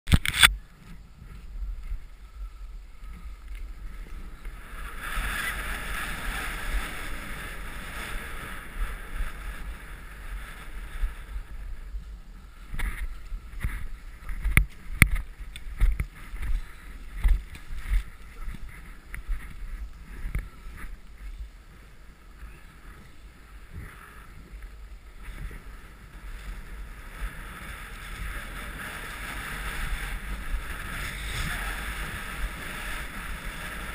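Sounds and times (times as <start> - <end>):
low wind rumble: 0.2 - 33.9
skis hissing over snow: 3.2 - 15.4, 16.1 - 33.9.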